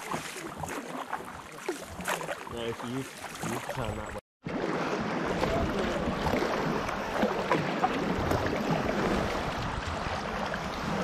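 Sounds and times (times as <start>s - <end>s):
paddle blades splashing: 0.0s - 11.0s
water sloshing around hull: 0.0s - 11.0s.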